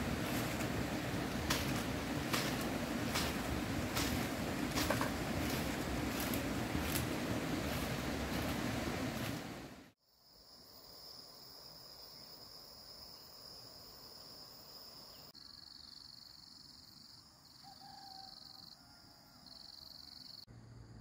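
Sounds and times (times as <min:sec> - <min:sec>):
insects buzzing: 0:00.0 - 0:18.6.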